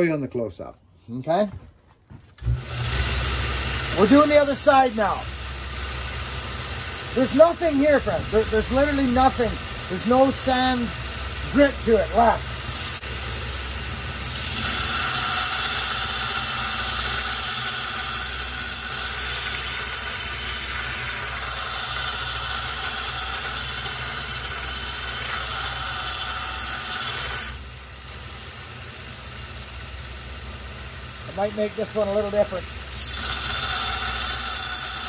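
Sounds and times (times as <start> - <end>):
belt grinder grinding steel: 2.4 - 27.7, 31.1 - 35.0.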